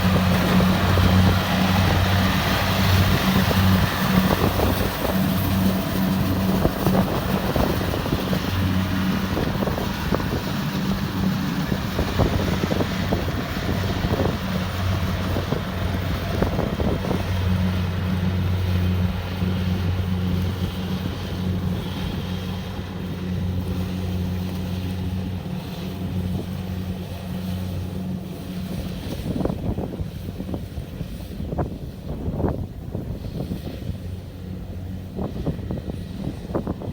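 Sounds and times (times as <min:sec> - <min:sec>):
threshing machine noise: 0:00.0 - 0:31.7
combine harvester engine droning: 0:00.0 - 0:36.9.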